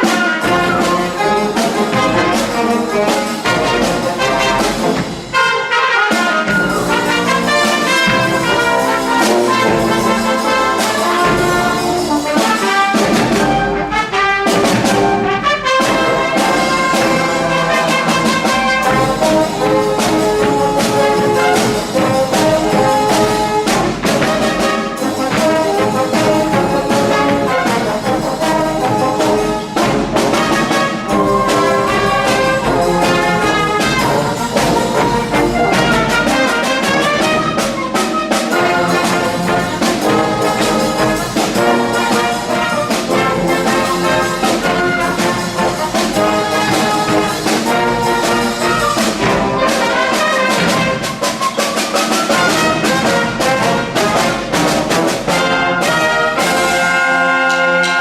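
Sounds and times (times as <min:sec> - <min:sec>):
brass band playing: 0:00.0 - 0:58.0
percussion hits: 0:00.0 - 0:58.0.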